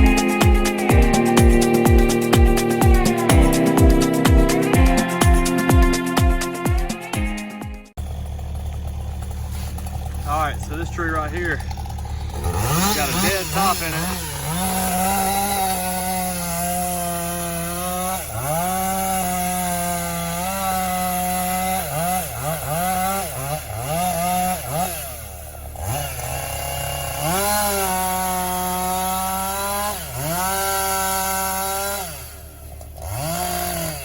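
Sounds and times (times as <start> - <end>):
chainsaw revving: 0.0 - 7.1, 8.0 - 34.0.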